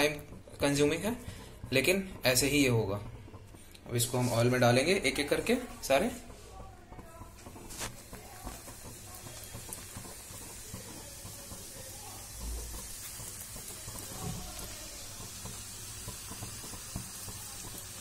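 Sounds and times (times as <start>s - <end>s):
dough sizzling in hot oil: 0.0s - 18.0s.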